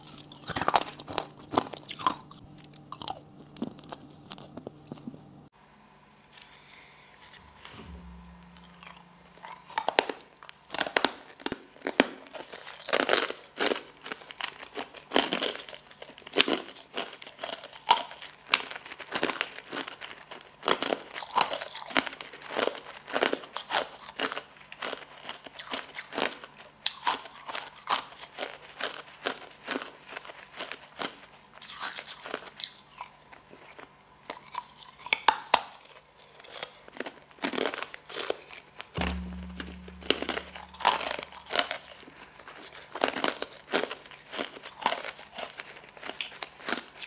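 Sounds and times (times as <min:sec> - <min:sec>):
crunchy wet chewing: 0:00.0 - 0:05.3, 0:10.8 - 0:38.9, 0:42.6 - 0:47.0.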